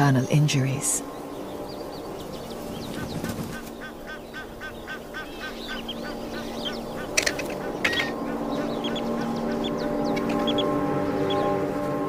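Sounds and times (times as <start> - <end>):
low hum: 0.0 - 12.0
bird calling rapid notes: 1.8 - 11.6.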